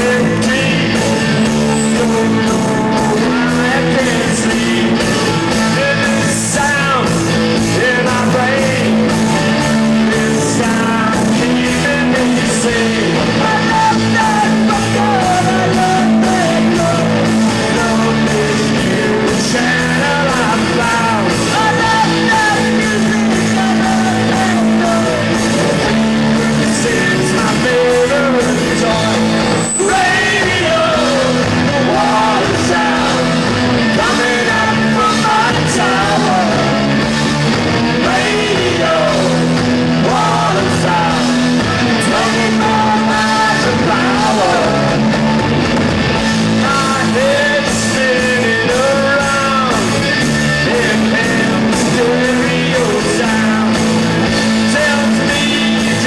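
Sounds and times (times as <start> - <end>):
electric guitars: 0.0 - 56.0.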